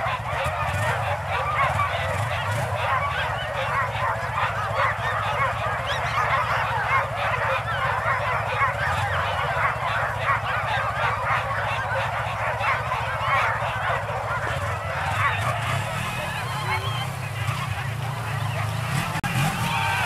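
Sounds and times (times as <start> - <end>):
sled dogs yelping and barking: 0.0 - 20.0.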